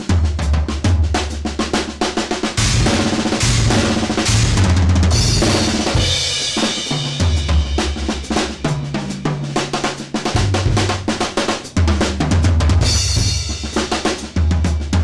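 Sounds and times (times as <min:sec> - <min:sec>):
drum kit groove: 0:00.0 - 0:15.0.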